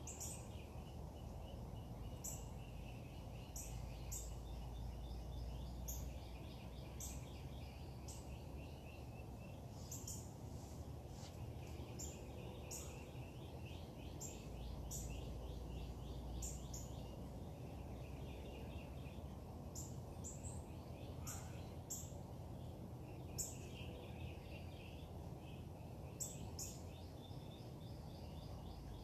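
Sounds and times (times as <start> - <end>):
birds chirping and singing: 0.0 - 29.0
low background rumble: 0.0 - 29.0.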